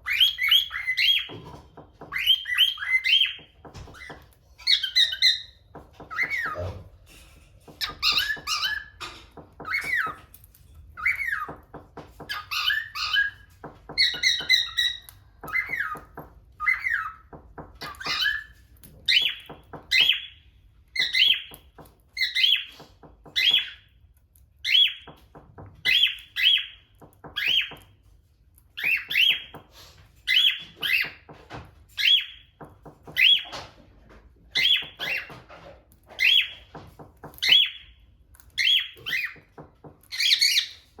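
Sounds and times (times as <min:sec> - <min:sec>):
cockatiels chirping and whistling: 0:00.0 - 0:06.9, 0:07.7 - 0:28.0, 0:28.6 - 0:33.8, 0:34.5 - 0:41.0.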